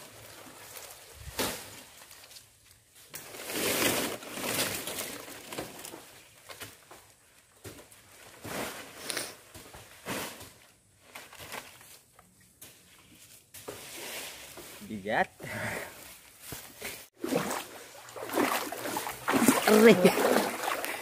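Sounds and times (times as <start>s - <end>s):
palm fronds rustling: 0.0s - 21.0s.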